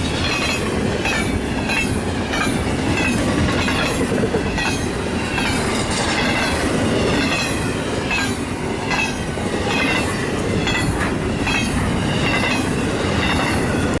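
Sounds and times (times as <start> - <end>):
train wheels rushing on rails: 0.0 - 14.0
wheels clicking over rail joints: 0.0 - 14.0.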